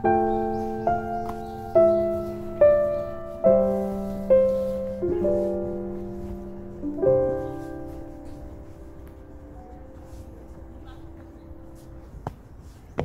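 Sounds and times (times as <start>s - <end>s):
slow gentle piano chords: 0.0s - 13.0s.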